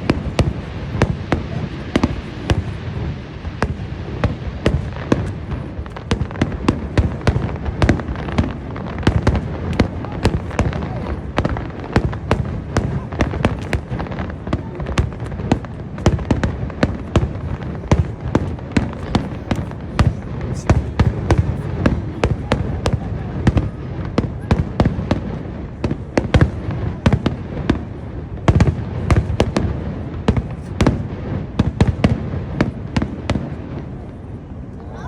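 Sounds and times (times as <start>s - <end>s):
fireworks bangs and cracks: 0.0s - 35.0s.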